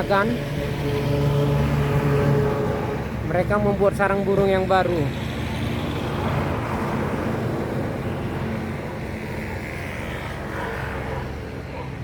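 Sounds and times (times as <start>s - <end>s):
rumble of motor traffic: 0.0s - 12.0s.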